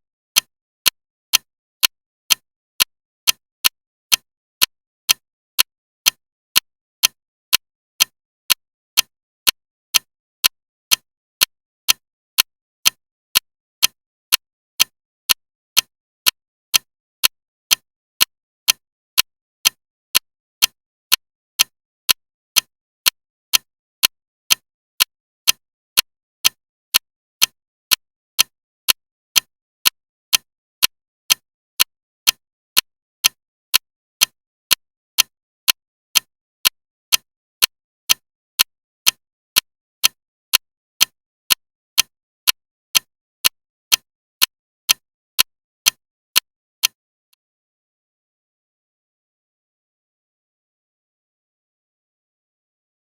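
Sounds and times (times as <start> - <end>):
loud ticking clock: 0.4 - 4.3, 5.1 - 8.2, 9.0 - 15.9, 16.7 - 47.0.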